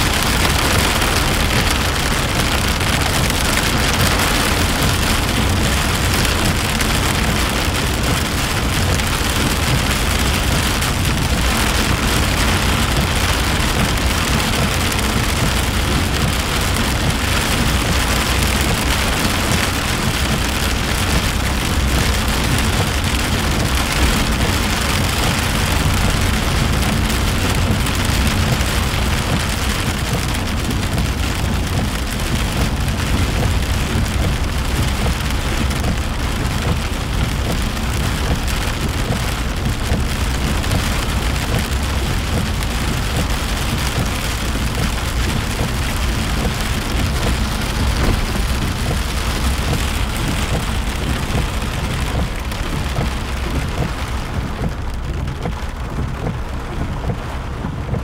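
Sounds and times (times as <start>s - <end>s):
car rumbling on wet road: 0.0s - 58.0s
rain on car roof: 0.0s - 58.0s.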